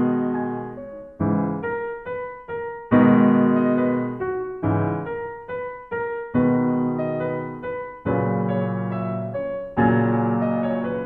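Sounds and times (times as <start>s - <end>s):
slow piano notes and chords: 0.0s - 11.0s.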